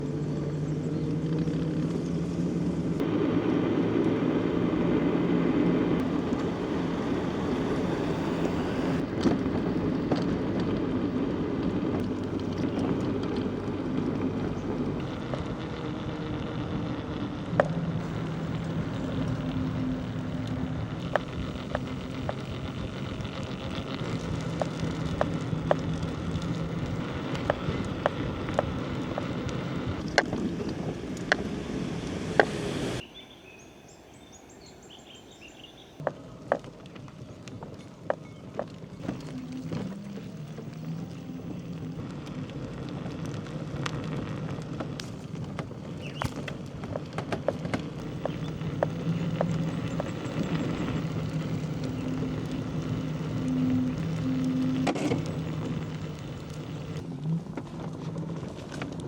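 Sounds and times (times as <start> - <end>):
rolling bicycle tyres: 0.0 - 33.6, 34.2 - 59.0
low hum: 0.0 - 38.0, 38.7 - 59.0
wind rumbling: 0.0 - 59.0
sharp clicks and ticks: 2.9 - 33.0, 36.0 - 59.0.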